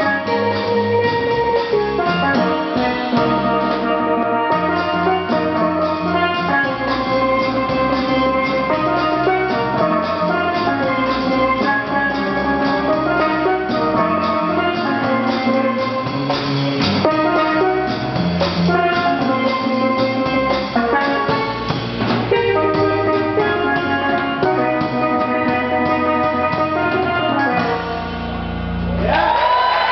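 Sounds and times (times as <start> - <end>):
steelpan melody: 0.0 - 28.9
double bass: 0.0 - 29.9
drum kit: 0.0 - 29.9.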